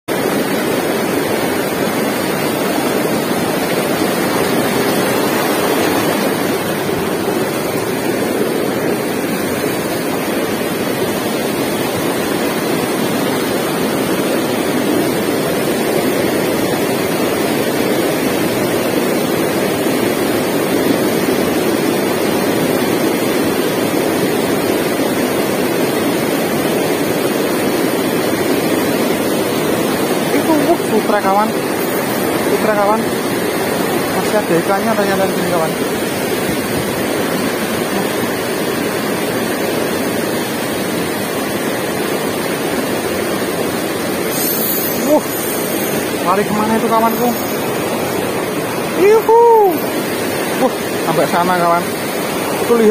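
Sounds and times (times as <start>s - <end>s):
river rapids rushing: 0.1s - 52.9s.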